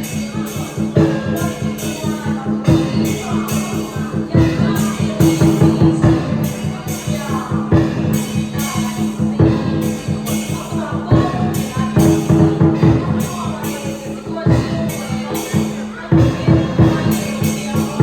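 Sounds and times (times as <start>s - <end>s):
cymbal crashes: 0.0s - 18.0s
drum beats: 0.0s - 18.0s.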